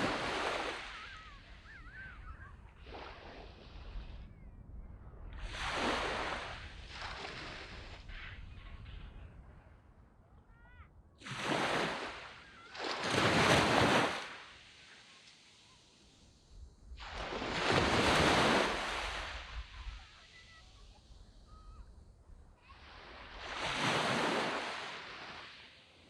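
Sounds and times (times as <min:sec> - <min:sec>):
sea waves breaking on sand: 0:00.0 - 0:04.3, 0:05.4 - 0:09.1, 0:11.2 - 0:21.7, 0:22.6 - 0:26.0.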